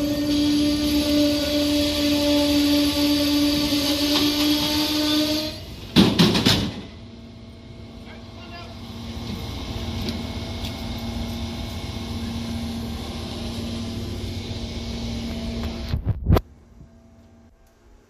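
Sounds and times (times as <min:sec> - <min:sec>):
train wheels rumbling on rail: 0:00.0 - 0:17.6.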